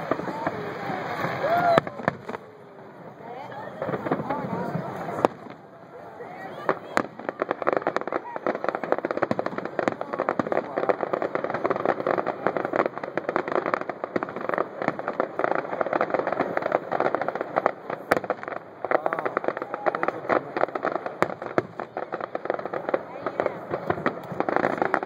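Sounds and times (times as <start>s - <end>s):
sharp firework bangs: 0.0s - 2.5s, 6.5s - 25.0s
fireworks crackling: 0.0s - 25.0s.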